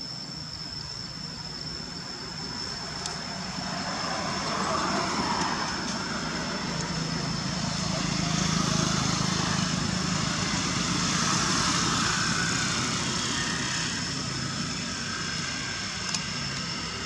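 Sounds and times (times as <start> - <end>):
faint high whine: 0.0 - 17.0
low engine drone: 0.0 - 17.0.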